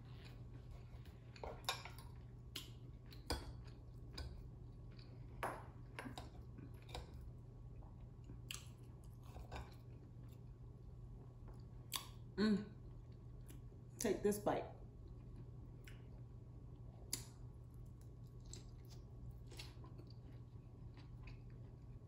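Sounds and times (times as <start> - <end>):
chewing and eating: 0.0 - 13.8, 14.8 - 22.0.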